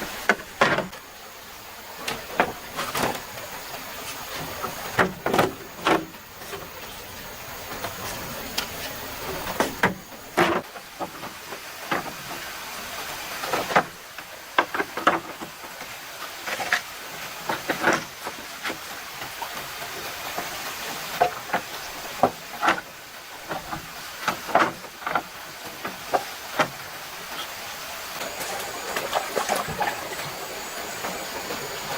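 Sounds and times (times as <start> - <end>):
stream flowing: 0.0 - 31.9.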